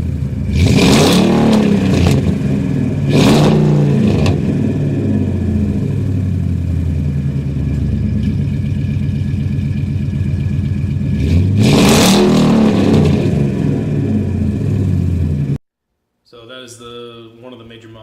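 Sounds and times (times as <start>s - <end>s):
truck engine idling and revving: 0.0s - 15.6s.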